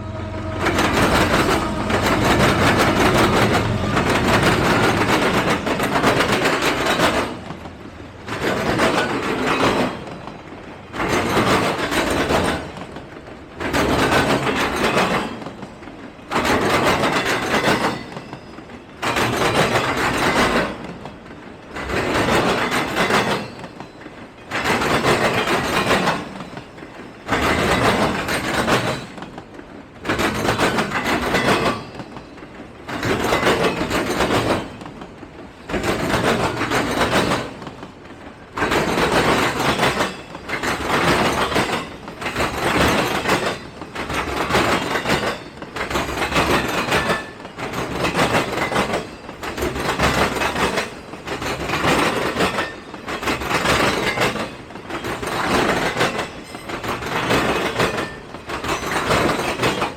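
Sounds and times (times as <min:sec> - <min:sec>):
railroad cars rolling on track: 0:00.0 - 0:59.9.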